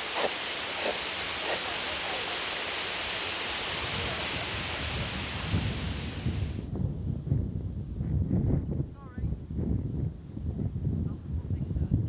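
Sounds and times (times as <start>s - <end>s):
wind hiss on microphone: 0.0s - 12.0s.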